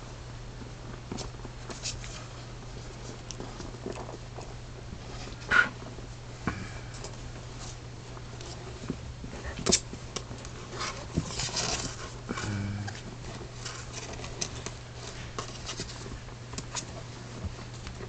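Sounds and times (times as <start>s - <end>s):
bedding rustling: 0.0s - 18.0s
steady low hum: 0.0s - 18.0s.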